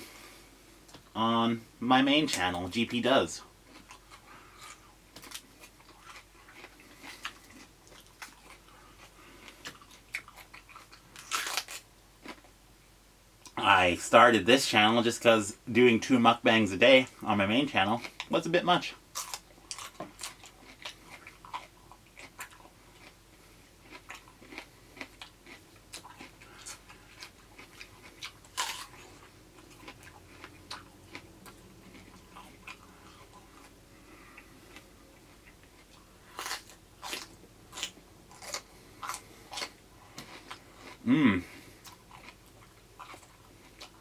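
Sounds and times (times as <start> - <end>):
crunching and chewing raw produce: 0.0 - 12.6, 15.9 - 44.0.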